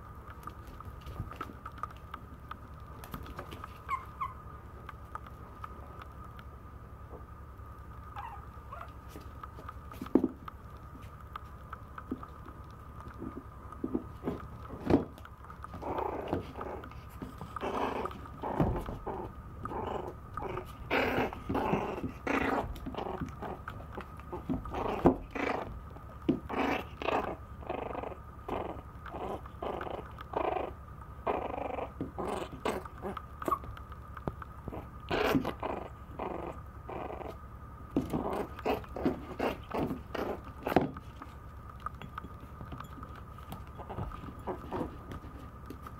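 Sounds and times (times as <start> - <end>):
puppy growling: 3.0 - 4.4, 8.1 - 45.9.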